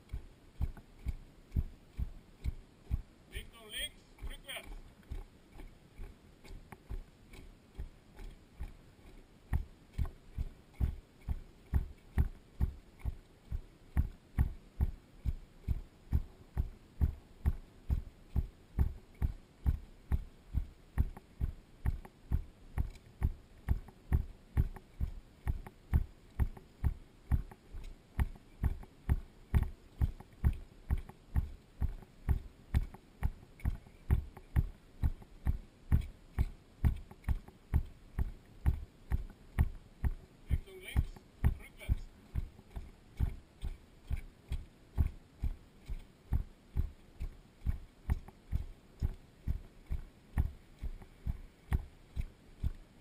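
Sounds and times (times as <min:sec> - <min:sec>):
boots marching in step: 0:00.0 - 0:53.0.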